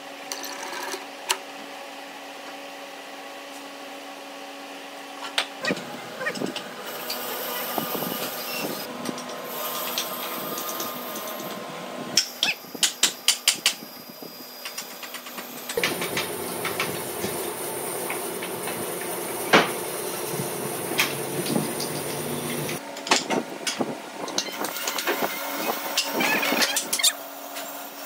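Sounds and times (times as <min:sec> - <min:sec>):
steady workshop hum: 0:00.0 - 0:28.0.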